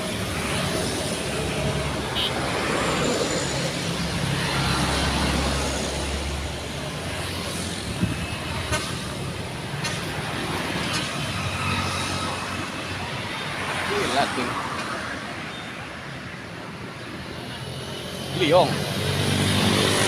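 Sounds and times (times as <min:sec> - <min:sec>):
road noise: 0:00.0 - 0:20.0
truck engines rumbling: 0:00.0 - 0:20.0.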